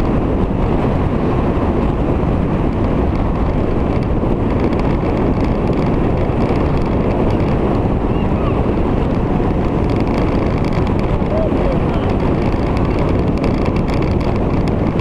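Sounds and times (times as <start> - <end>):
motorcycle engine: 0.0 - 15.0
road noise: 0.0 - 15.0
wind rush over microphone: 0.0 - 15.0.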